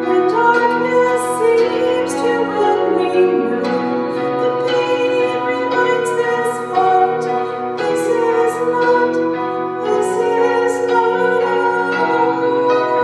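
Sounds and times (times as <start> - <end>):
person singing slow song: 0.0 - 13.0
sustained keyboard chords: 0.0 - 13.0.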